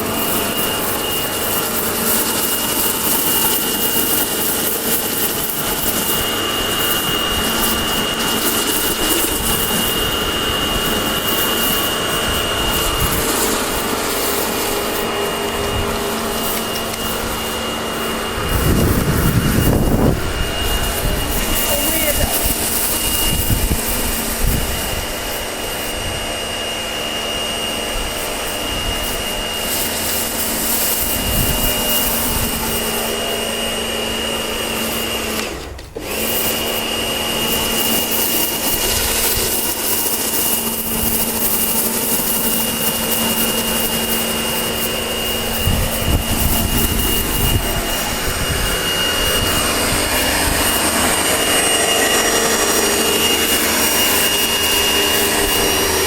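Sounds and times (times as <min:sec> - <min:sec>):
water spray hissing: 0:00.0 - 0:26.0, 0:28.2 - 0:33.7, 0:37.4 - 0:56.0
pressure washer motor whining: 0:00.0 - 0:56.0.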